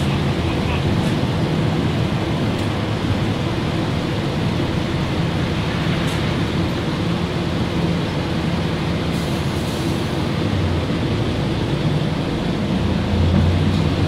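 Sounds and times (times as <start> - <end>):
bus engine hum: 0.0 - 14.0
road noise: 0.0 - 14.0.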